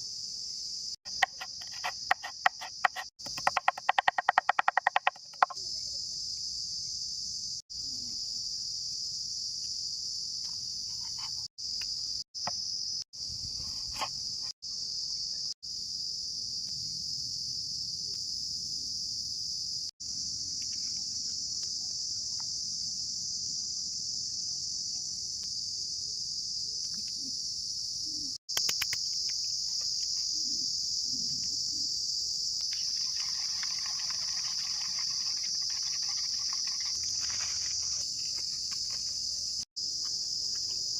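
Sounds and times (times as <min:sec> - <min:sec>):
insect chorus chirring: 0:00.0 - 0:40.9.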